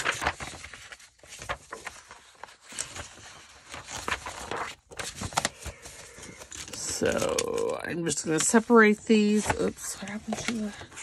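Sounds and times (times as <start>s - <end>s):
paper rustling and shuffling: 0.0s - 11.0s.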